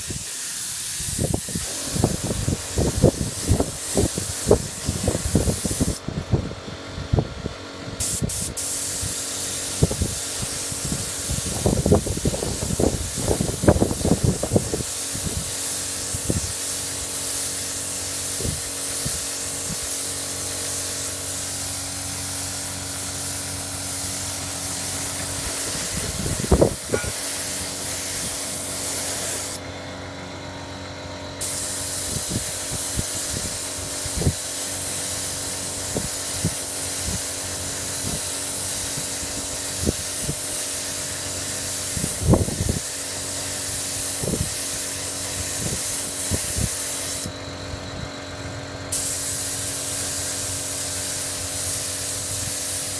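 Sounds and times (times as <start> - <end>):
air spray gun hissing: 0.0 - 6.1, 8.0 - 52.9.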